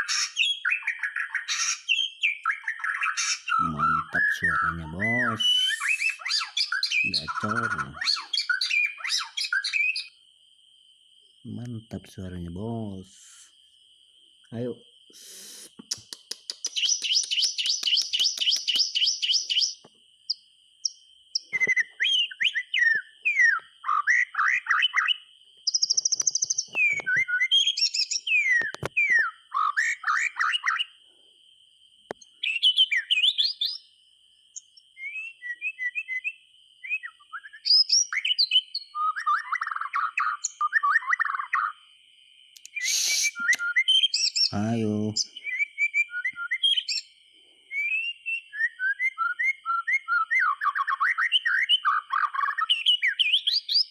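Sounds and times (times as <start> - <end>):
songbird singing varied phrases: 0.0 - 10.3, 11.4 - 13.7, 14.4 - 31.0, 32.1 - 53.9.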